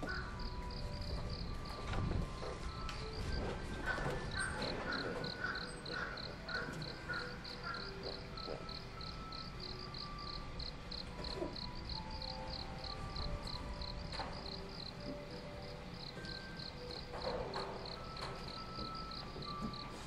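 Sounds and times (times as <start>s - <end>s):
insect chirping: 0.0s - 3.2s, 3.8s - 20.0s
lower insect calls: 0.0s - 20.0s.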